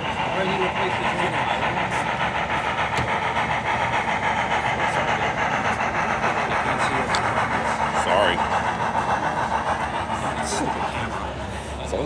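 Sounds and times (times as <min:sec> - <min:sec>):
hum of busy hall: 0:00.0 - 0:12.0
model locomotive chuffing: 0:00.0 - 0:12.0.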